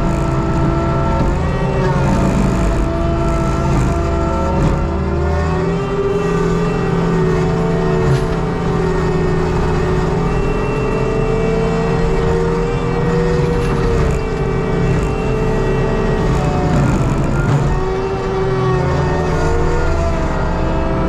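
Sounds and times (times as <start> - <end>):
diesel engine running: 0.0 - 21.0
hydraulic whine: 0.0 - 21.0.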